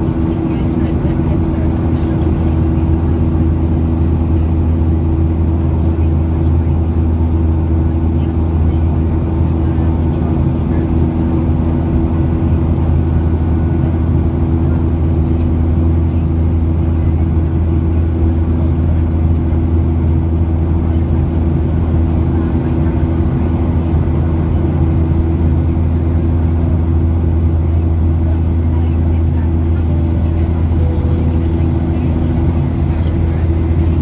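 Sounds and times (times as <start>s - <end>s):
airplane engines droning: 0.0s - 34.0s.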